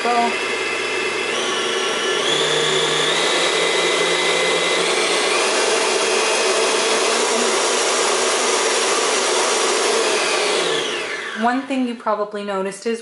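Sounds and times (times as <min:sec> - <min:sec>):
stand mixer motor whine: 0:00.0 - 0:11.9.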